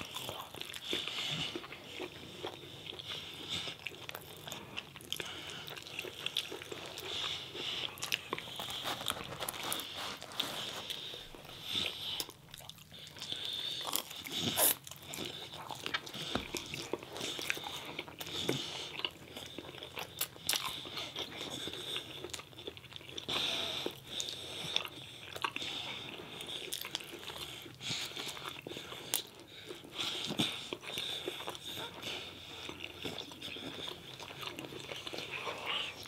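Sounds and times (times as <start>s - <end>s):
food crunching: 0.0s - 36.0s
person chewing food: 0.0s - 36.0s.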